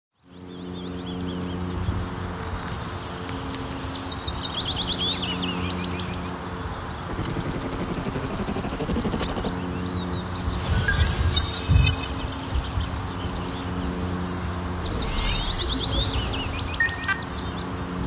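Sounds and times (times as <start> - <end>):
birds chirping: 0.4 - 18.0.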